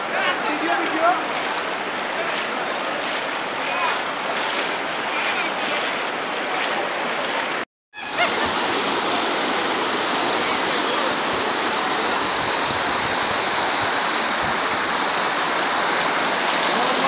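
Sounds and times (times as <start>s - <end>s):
floodwater rushing over road divider: 0.0s - 17.0s.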